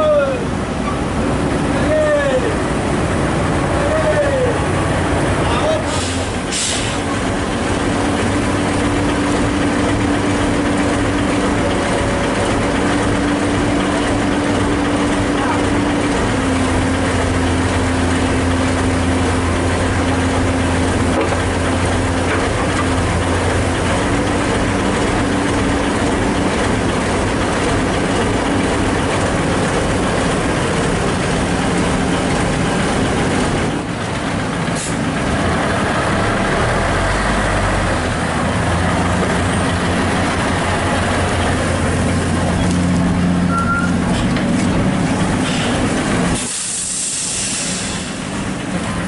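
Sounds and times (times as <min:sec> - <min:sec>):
excavator diesel engine running: 0:00.0 - 0:49.0.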